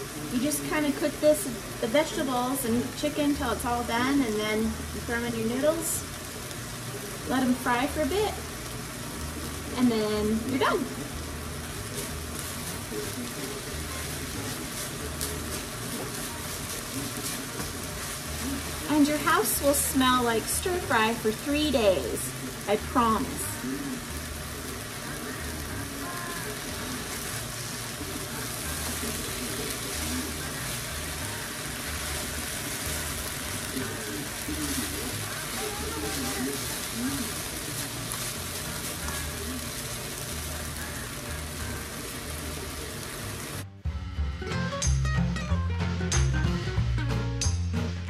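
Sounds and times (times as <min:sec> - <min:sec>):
spattering crackles: 0:00.0 - 0:43.6
food sizzling in a skillet: 0:00.0 - 0:43.7.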